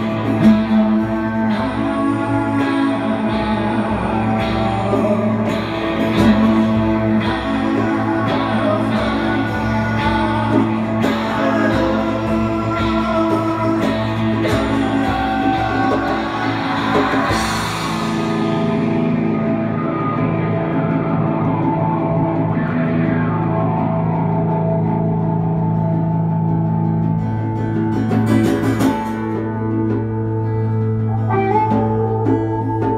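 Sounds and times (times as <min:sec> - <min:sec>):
electric and acoustic guitars: 0:00.0 - 0:32.9.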